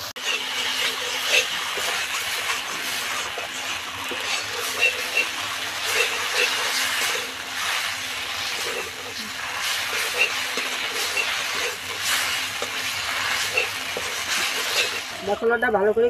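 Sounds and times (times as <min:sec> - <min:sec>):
wooden spatula scraping a pan: 0:00.0 - 0:15.6
paste sizzling in oil: 0:00.0 - 0:15.9.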